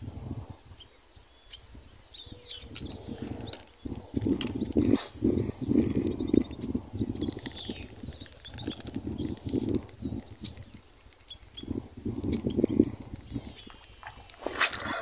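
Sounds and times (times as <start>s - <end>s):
wind buffeting microphone: 0.0s - 15.0s
faint high chirps: 0.8s - 15.0s
rustling through tall grass: 1.2s - 15.0s.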